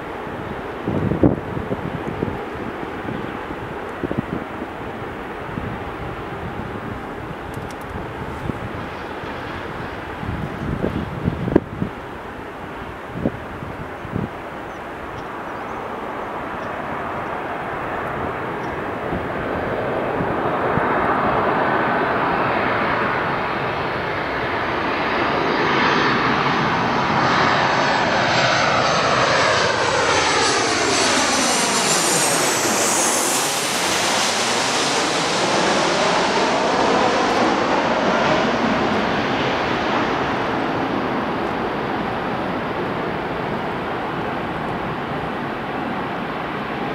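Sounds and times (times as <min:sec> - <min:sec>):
jet airliner engines passing: 0:00.0 - 0:46.9.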